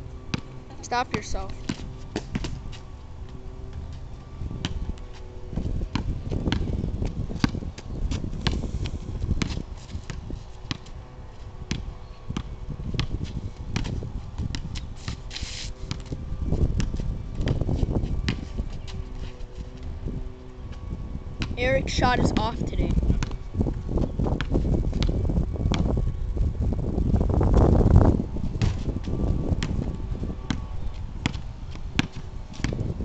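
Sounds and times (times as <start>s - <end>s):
wind rumble on microphone: 0.0s - 33.0s
basketball bouncing on asphalt: 0.3s - 15.2s, 15.9s - 26.0s, 27.5s - 33.0s.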